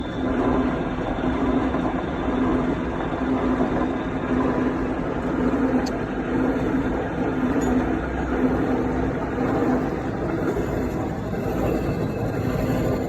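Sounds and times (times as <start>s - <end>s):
milling machine hum: 0.0s - 13.0s.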